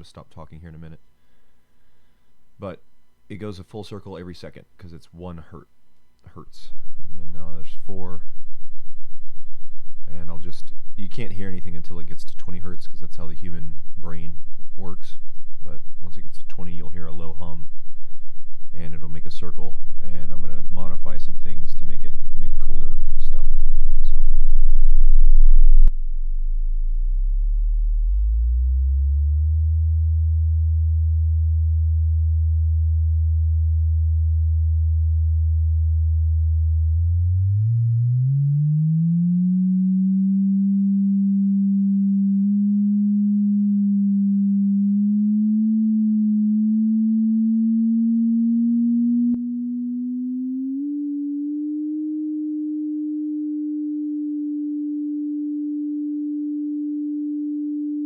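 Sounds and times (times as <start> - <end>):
sine wave synthesizer hum: 0.0 - 58.0.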